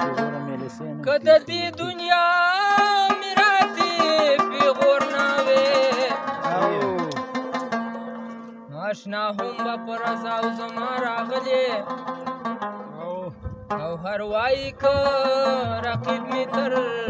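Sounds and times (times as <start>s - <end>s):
man singing: 0.0s - 7.2s, 8.7s - 12.0s, 13.7s - 17.0s
plucked lute: 0.0s - 17.0s.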